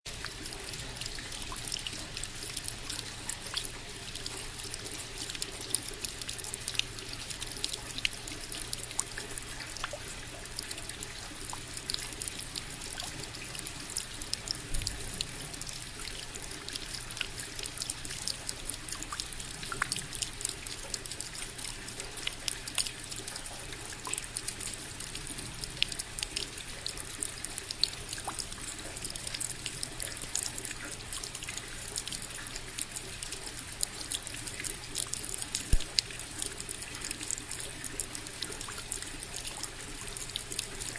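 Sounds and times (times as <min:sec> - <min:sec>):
water splashing: 0:00.1 - 0:40.9.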